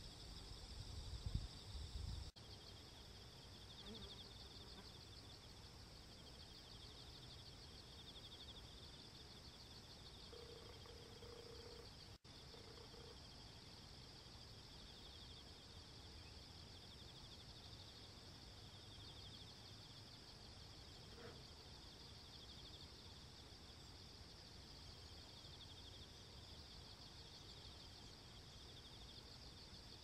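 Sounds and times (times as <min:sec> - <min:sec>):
pulsing high-pitched insect chorus: 0:00.0 - 0:30.0.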